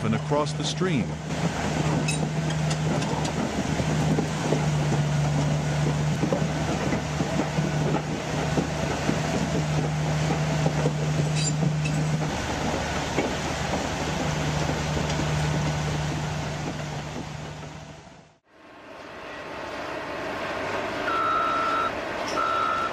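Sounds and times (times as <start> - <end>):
bulldozer diesel engine running: 0.0 - 22.9.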